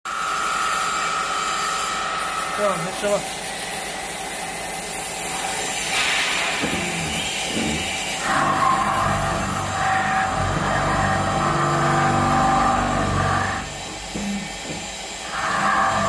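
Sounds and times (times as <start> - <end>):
milling machine cutting whine: 0.1 - 16.0.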